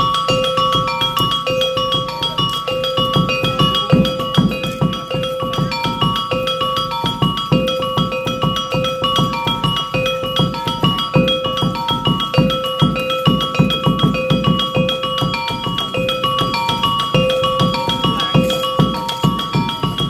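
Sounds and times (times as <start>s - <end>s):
hand-drum beats: 0.0s - 20.0s.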